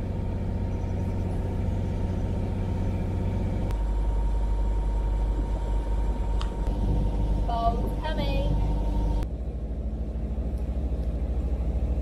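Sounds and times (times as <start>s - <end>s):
outboard motor droning: 0.0s - 12.0s.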